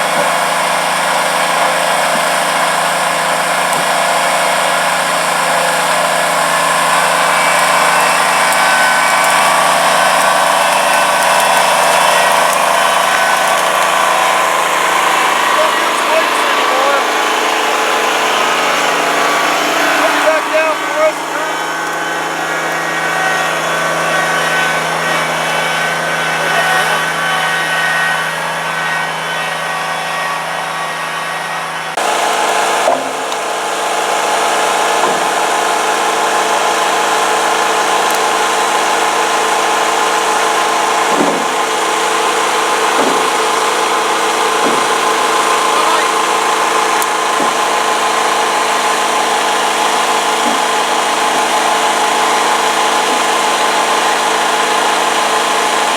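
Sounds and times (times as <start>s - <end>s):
motor droning: 0.0s - 55.9s.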